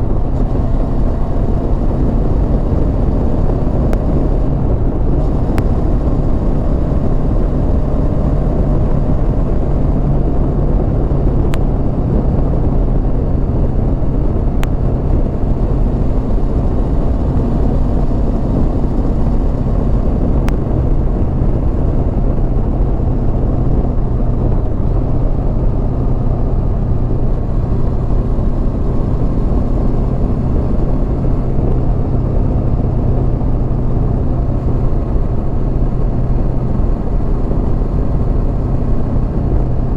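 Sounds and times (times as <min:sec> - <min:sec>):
motorcycle engine hum: 0:00.0 - 0:39.9
wind rush on microphone: 0:00.0 - 0:39.9.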